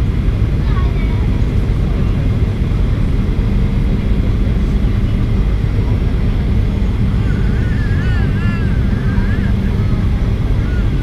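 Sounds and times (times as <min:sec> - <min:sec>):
airflow noise: 0:00.0 - 0:11.0
jet engine rumble: 0:00.0 - 0:11.0.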